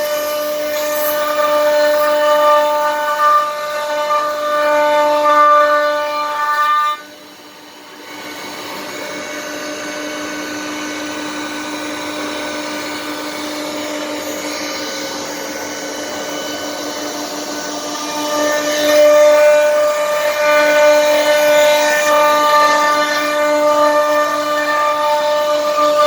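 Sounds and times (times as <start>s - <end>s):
wood router motor whine: 0.0s - 26.0s.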